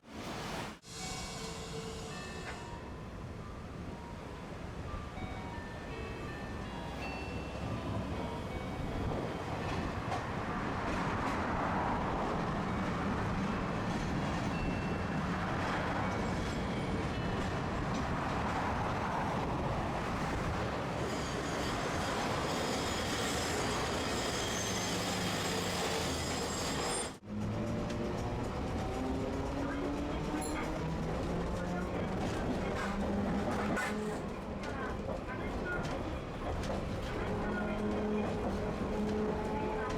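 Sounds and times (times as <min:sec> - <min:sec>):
tram wheels rumbling: 0:01.5 - 0:39.9.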